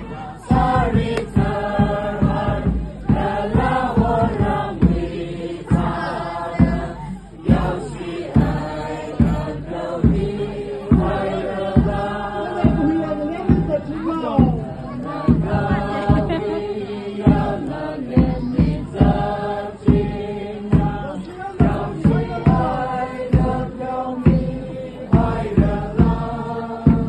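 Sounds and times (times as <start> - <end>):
group of voices chanting: 0.0 - 27.0
steady low beat: 0.0 - 27.0.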